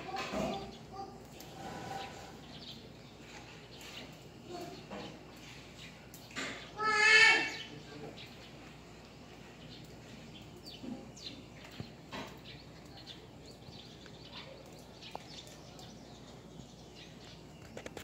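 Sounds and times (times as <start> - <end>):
faint outdoor background: 0.0 - 18.0
small birds chirping: 0.0 - 18.0.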